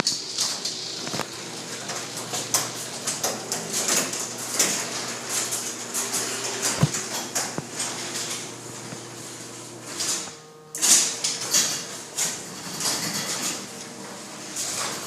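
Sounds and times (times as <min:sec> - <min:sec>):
garage door rattling and scraping: 0:00.0 - 0:15.0
steady low hum: 0:00.3 - 0:15.0.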